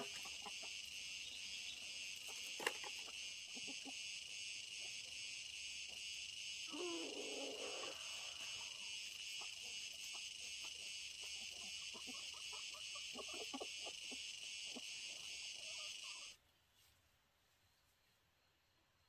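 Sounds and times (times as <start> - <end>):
high-pitched insect chorus: 0.0 - 16.4.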